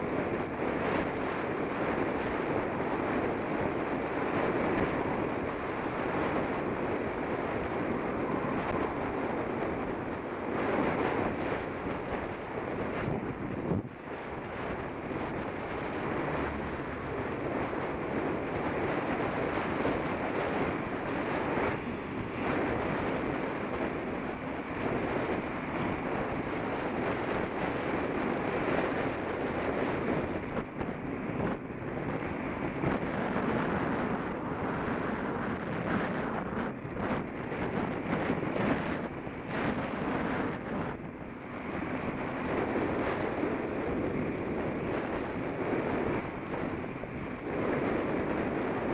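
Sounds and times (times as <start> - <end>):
wind rushing over microphone: 0.0 - 48.9.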